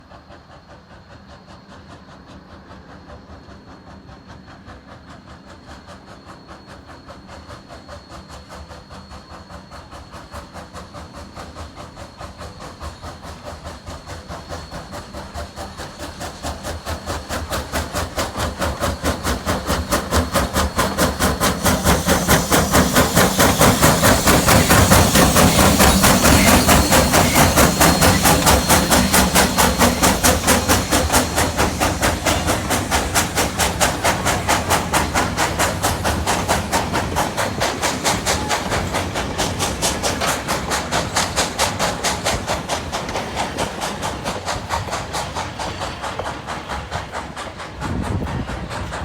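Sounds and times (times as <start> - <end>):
steam locomotive chuffing: 0.0 - 49.0.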